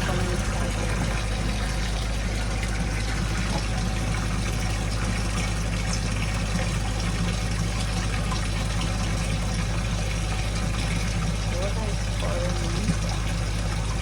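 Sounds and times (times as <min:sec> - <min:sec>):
steady low hum: 0:00.0 - 0:14.0
water pouring into tub: 0:00.0 - 0:14.0.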